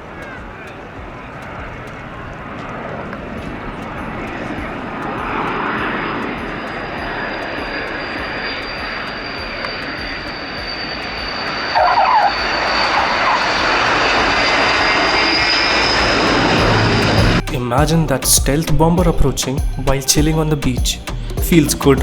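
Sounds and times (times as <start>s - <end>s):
turboprop engines whining: 0.0s - 22.0s.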